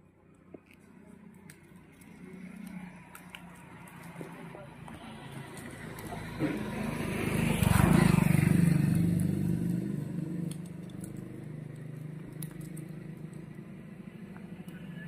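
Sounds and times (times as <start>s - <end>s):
low engine hum: 0.0s - 15.0s
vehicle engine passing by: 1.9s - 15.0s.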